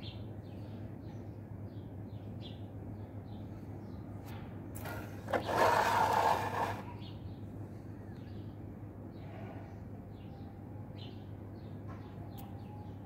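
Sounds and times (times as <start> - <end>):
small birds chirping: 0.0 - 4.4, 5.2 - 13.0.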